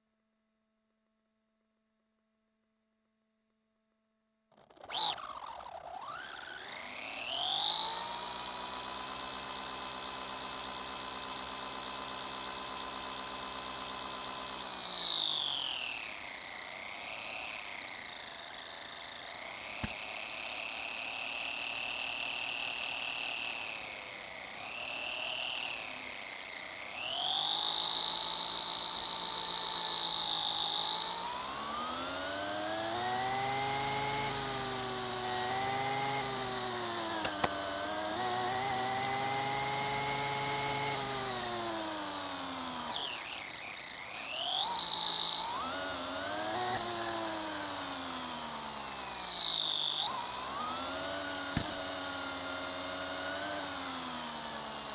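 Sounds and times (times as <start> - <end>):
electric motor and gears whining: 4.5 - 54.9.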